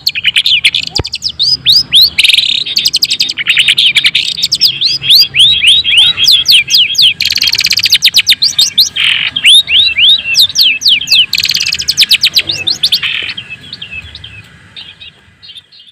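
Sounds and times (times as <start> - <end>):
shrike singing whistles: 0.0 - 14.2
harsh rasping bird notes: 0.0 - 15.9.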